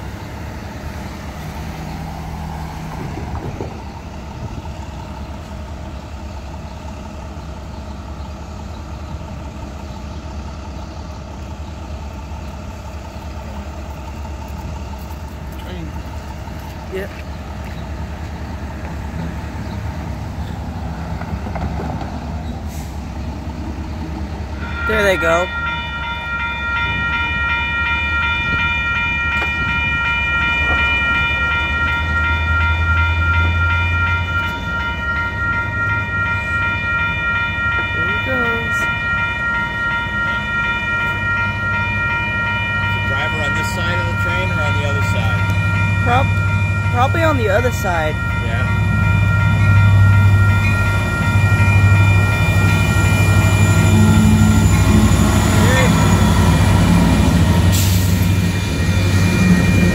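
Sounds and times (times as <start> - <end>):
diesel locomotives rumbling: 0.0 - 59.9
railroad crossing bells dinging: 0.0 - 59.9.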